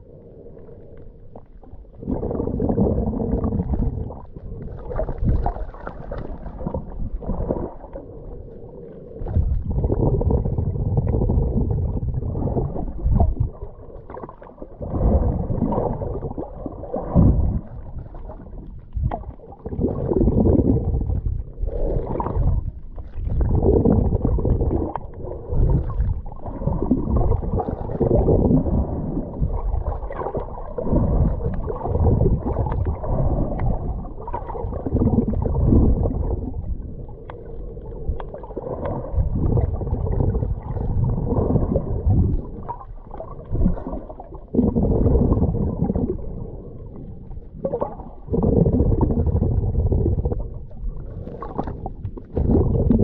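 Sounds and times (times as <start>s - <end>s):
sea water rushing and sloshing: 0.0s - 53.0s.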